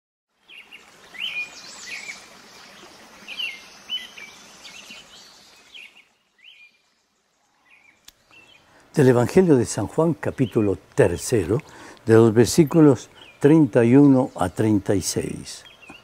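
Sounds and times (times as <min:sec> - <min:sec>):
soft outdoor hiss: 0:00.3 - 0:16.0
birds chirping: 0:00.4 - 0:16.0.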